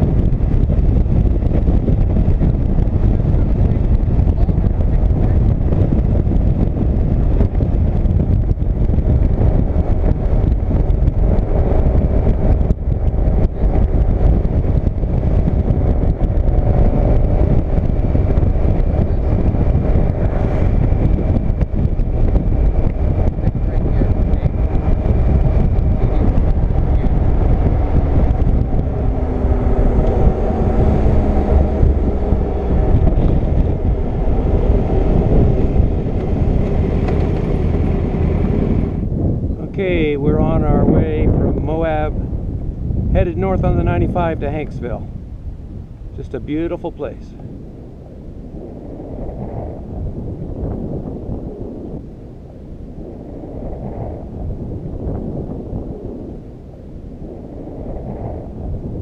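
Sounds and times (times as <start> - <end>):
motorcycle engine hum: 0.0 - 59.0
wind and road noise: 0.0 - 59.0.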